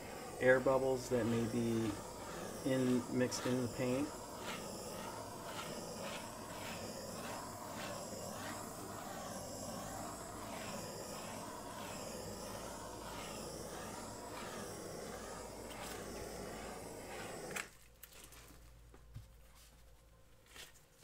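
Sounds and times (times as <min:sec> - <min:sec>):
butane torch hissing: 0:00.0 - 0:17.7.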